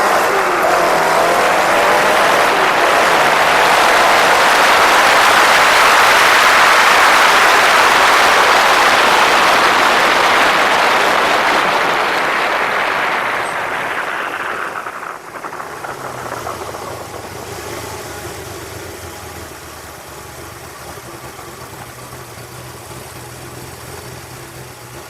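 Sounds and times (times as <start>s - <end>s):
racing car engines roaring: 0.0s - 25.0s.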